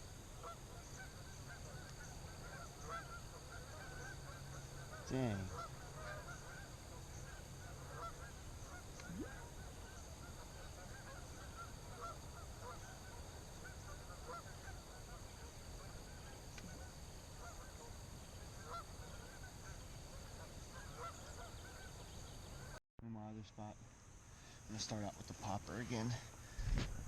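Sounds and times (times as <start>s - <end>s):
distant geese honking: 0.0s - 22.8s.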